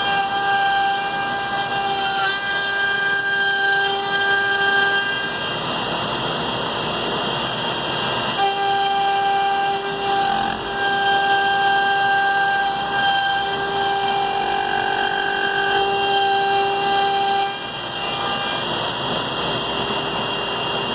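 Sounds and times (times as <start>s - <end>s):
cnc machine mechanical whine: 0.0s - 20.9s.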